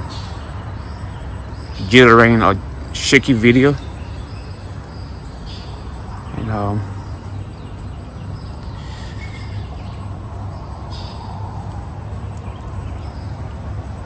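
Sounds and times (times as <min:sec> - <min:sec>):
bird chirps: 0:00.0 - 0:13.6
steady low rumble: 0:00.0 - 0:14.0.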